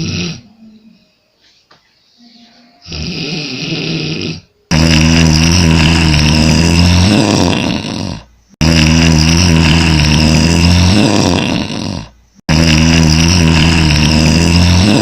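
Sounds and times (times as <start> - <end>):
person snoring loudly: 0.0 - 0.5, 2.8 - 15.0.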